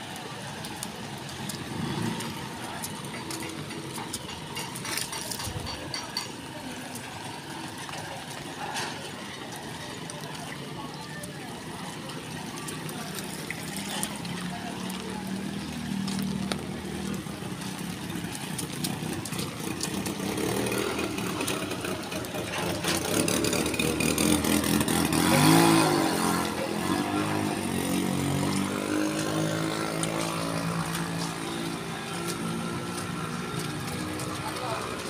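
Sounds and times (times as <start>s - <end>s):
small engines through floodwater: 0.0s - 35.0s.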